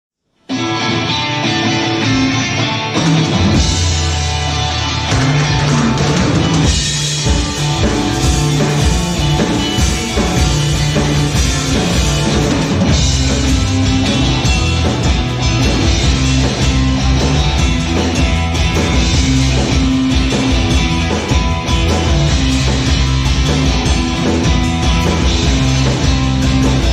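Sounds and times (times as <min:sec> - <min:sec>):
psychedelic rock band playing: 0:00.4 - 0:26.9.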